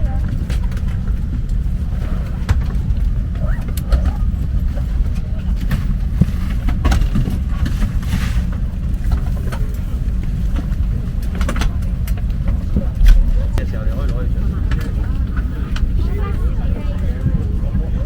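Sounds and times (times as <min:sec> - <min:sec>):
air-conditioning rumble: 0:00.0 - 0:18.0.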